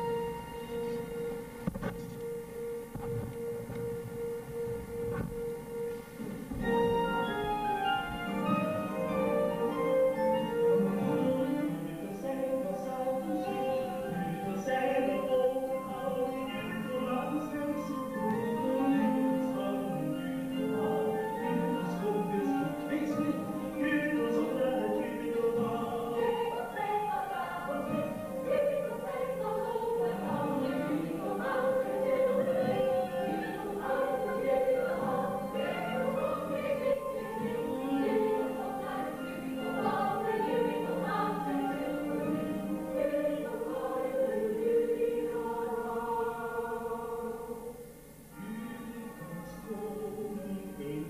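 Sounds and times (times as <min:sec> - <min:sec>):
orchestral backing: 0:00.0 - 0:47.0
ensemble singing in chorus: 0:06.6 - 0:51.0.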